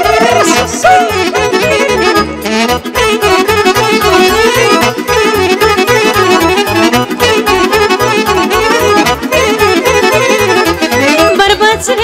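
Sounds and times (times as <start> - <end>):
folk dance melody: 0.0 - 12.0.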